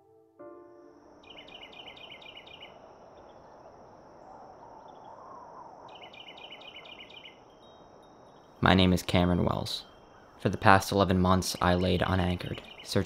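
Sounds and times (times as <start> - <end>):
low hiss: 0.3 - 13.0
crickets chirping: 0.5 - 13.0
high-pitched insect trill: 1.1 - 13.0.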